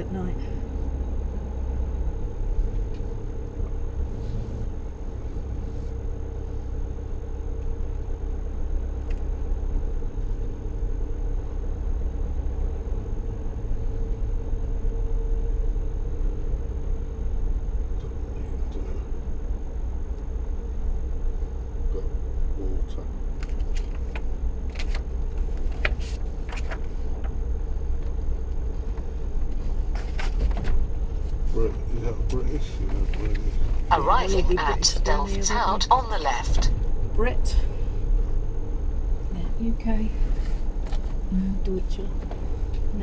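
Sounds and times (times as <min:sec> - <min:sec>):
engine droning from inside cab: 0:00.0 - 0:43.0.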